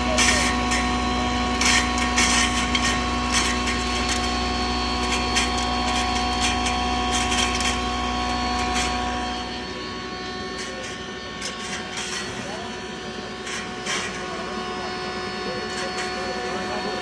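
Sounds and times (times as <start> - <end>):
grinding machine humming: 0.0 - 17.0.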